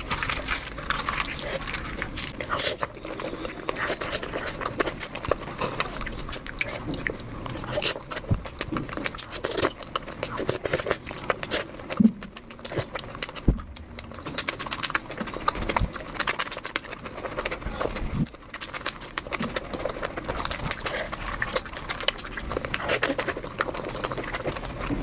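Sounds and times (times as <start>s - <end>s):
wet chewing and lip smacks: 0.0s - 25.0s.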